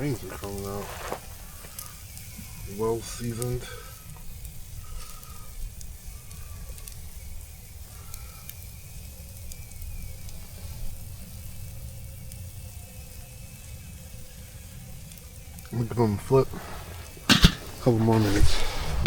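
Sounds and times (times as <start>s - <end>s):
chicken wings sizzling on grill: 0.0s - 18.9s.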